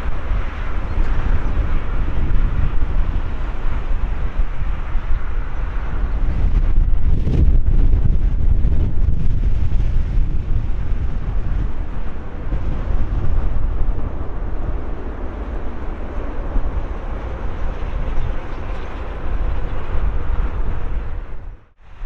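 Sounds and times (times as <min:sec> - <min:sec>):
jet engine roar: 0:00.0 - 0:22.0
wind buffeting microphone: 0:00.0 - 0:22.0.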